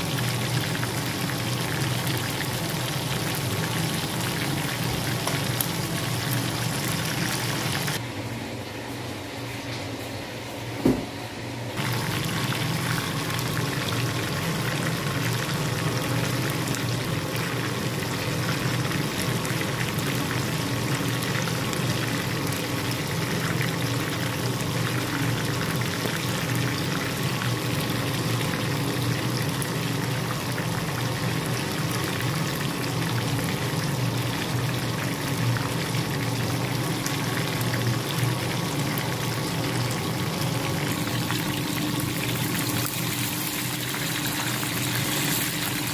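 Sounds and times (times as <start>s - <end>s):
oil sizzling and bubbling: 0.0s - 8.0s, 11.8s - 45.9s.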